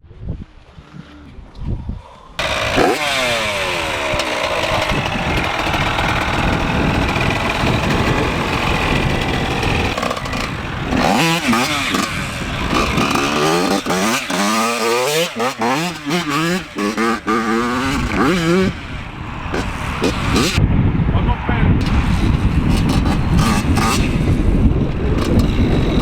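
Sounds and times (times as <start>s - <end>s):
two-stroke motorcycle engine revving: 2.4s - 20.6s, 21.8s - 26.0s.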